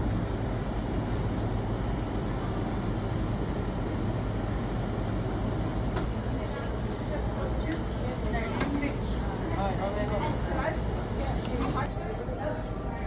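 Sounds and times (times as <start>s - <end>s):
noisy background: 0.0s - 13.0s.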